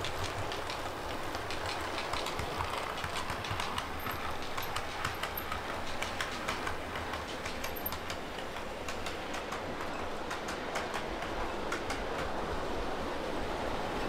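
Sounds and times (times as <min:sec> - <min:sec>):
model train wheels clicking: 0:00.0 - 0:12.8.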